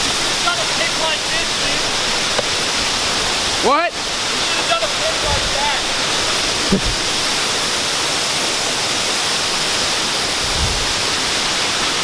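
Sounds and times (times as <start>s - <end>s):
waterfall rushing into pool: 0.0s - 12.0s.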